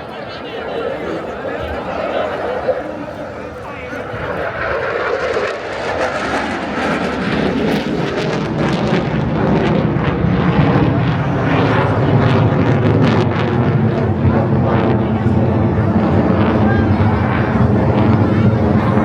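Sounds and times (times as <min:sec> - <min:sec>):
fighter jet roaring past: 0:00.0 - 0:19.0.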